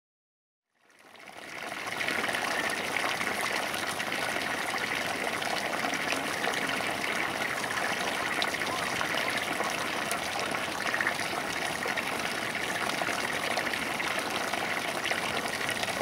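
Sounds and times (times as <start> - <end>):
water rushing along ditch: 1.0 - 16.0.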